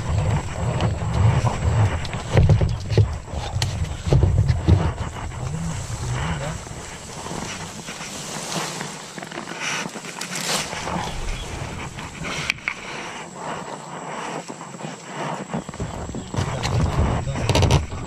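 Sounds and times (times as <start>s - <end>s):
leaves and twigs rustling: 0.0s - 18.0s.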